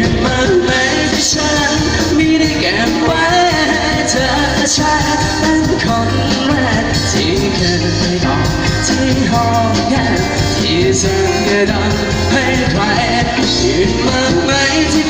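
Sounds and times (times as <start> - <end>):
live band playing pop music: 0.0 - 15.0
person singing: 0.0 - 15.0.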